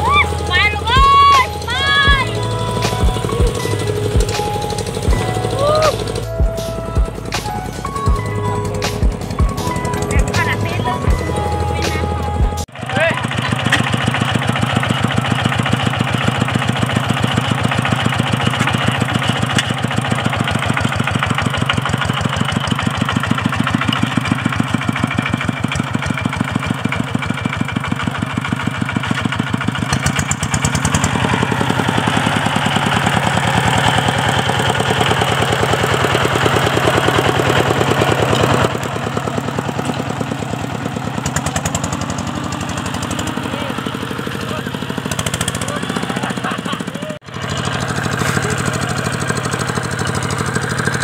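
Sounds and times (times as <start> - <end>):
diesel tractor engine running: 0.0 - 51.0.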